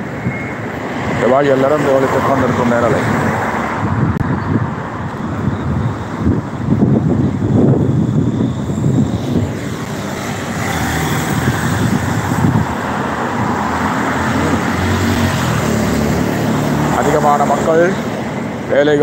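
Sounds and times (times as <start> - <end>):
passing traffic engines and tyres: 0.0 - 19.0.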